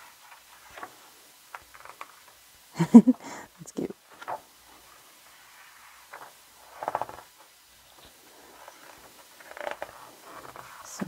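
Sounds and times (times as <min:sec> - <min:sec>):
book pages turning: 0:00.1 - 0:02.4, 0:04.1 - 0:10.9.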